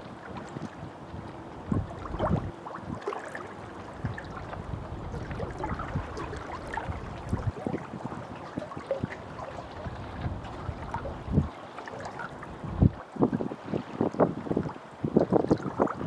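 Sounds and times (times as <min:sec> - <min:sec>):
waves lapping and splashing: 0:00.0 - 0:16.0.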